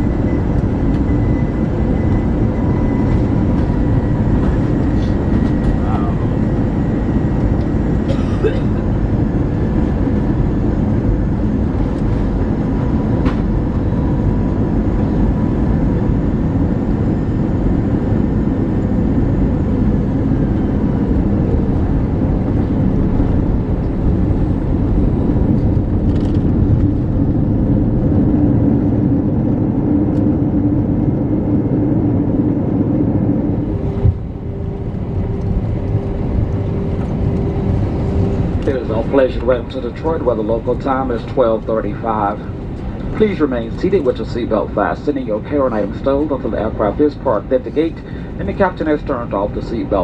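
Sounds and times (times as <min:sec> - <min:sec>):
aircraft engine and airflow rumble: 0:00.0 - 0:50.0
steady hum: 0:00.0 - 0:50.0.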